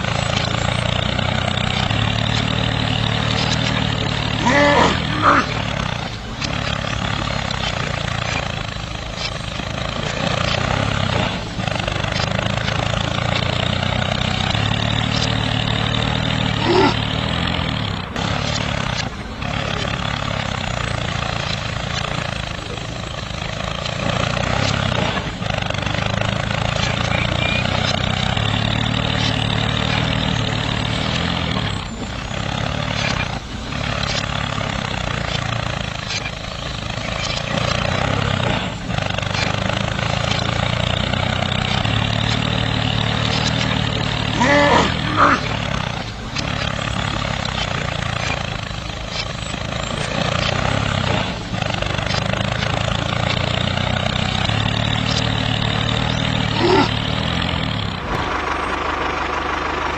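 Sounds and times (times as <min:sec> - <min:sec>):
small tractor engine drone: 0:00.0 - 0:59.9.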